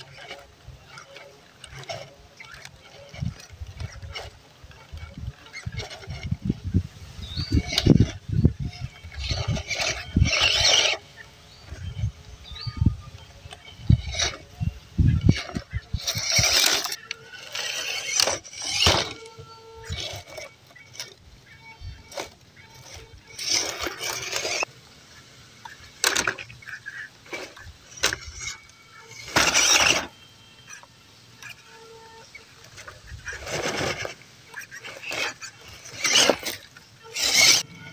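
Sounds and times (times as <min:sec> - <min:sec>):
tyres scrabbling on bark: 0:00.0 - 0:37.7
toy car motor whirring: 0:00.0 - 0:37.9.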